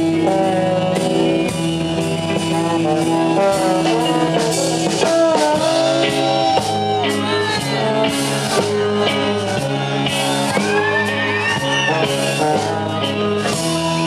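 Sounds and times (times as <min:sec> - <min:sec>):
bending guitar melody: 0:00.0 - 0:14.0
instrumental rock music: 0:00.0 - 0:14.0.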